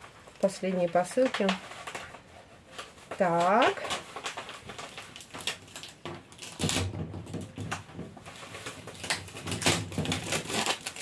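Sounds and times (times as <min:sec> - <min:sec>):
plastic cups and film rustling: 0:00.0 - 0:11.0.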